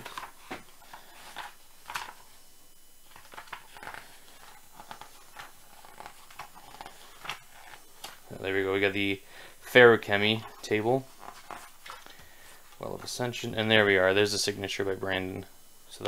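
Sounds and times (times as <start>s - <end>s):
book pages turning: 0.0s - 2.4s, 3.0s - 14.0s.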